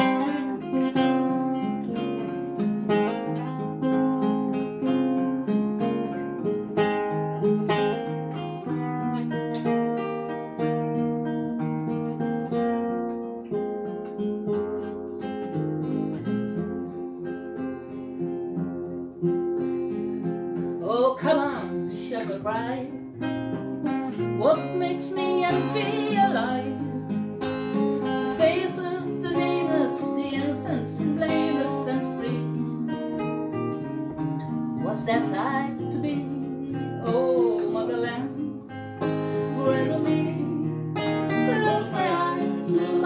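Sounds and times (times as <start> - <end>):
acoustic guitars playing: 0.0 - 43.0.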